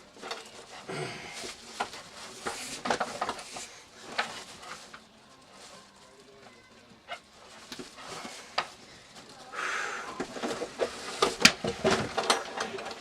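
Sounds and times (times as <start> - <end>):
rustling scrape: 0.0 - 13.0.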